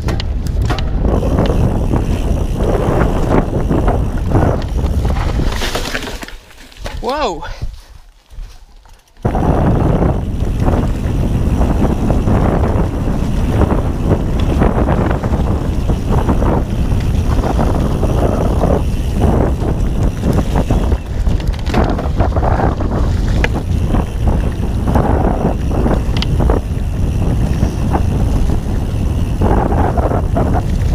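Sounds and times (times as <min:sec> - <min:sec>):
wind buffeting microphone: 0:00.0 - 0:05.7, 0:09.2 - 0:30.9
bike tyre rumble and rattling: 0:00.0 - 0:30.9.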